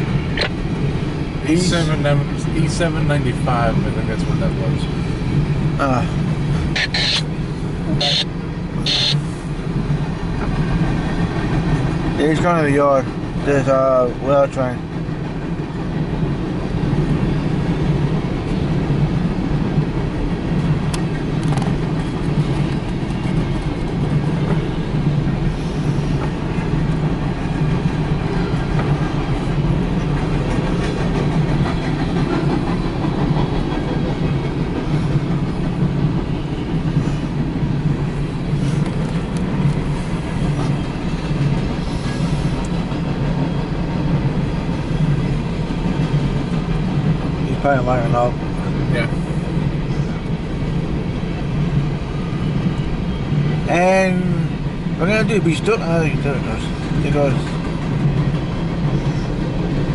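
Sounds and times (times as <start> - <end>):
train wheels rumbling on rails: 0.0 - 59.9
train wheels clickety-clack: 8.8 - 59.9.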